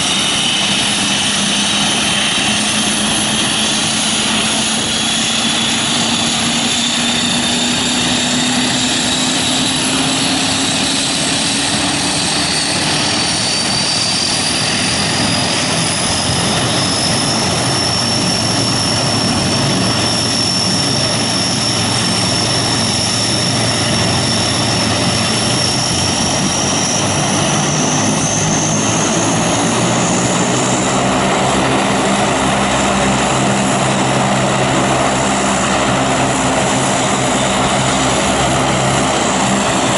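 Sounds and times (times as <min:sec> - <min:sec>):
propeller and engine noise: 0:00.0 - 0:39.9
turbine whine rising in pitch: 0:00.0 - 0:39.9.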